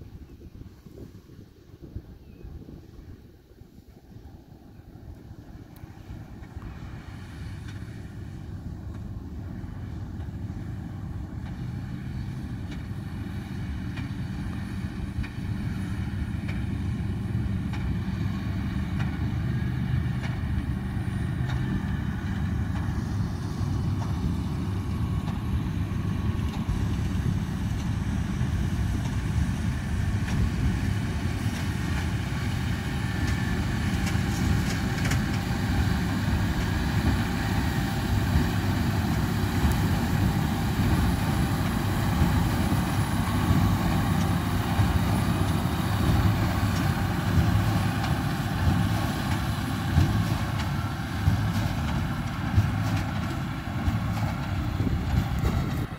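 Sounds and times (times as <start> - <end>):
tractor diesel engines under load: 0.0 - 55.9
baler machinery: 5.9 - 55.9.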